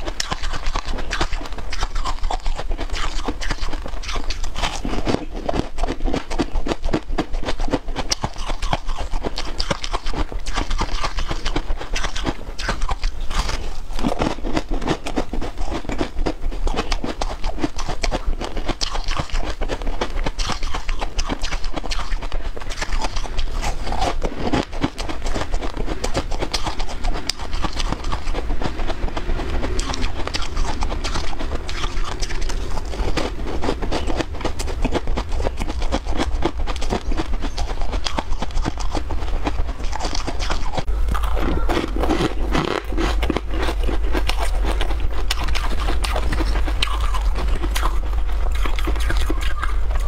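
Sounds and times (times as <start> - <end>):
chewing and crunching crisps: 0.0 - 50.0.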